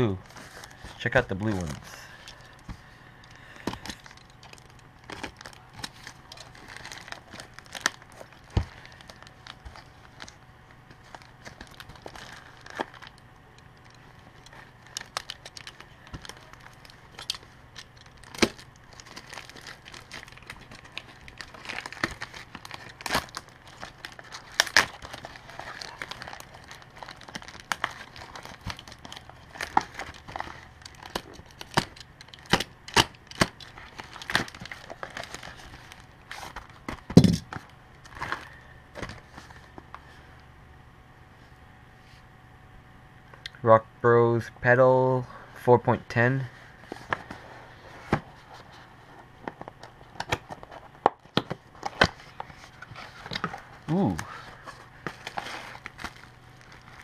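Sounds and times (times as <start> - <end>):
plastic crinkling and crackling: 0.2 - 40.0, 46.7 - 57.0.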